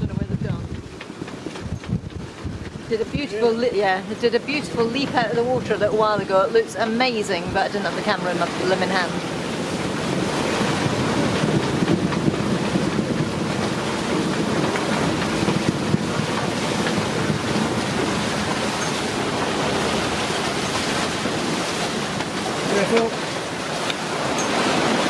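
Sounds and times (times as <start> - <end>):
rough sea rushing against hull: 0.0 - 25.0
strong wind: 0.0 - 25.0
wind buffeting microphone: 0.0 - 25.0.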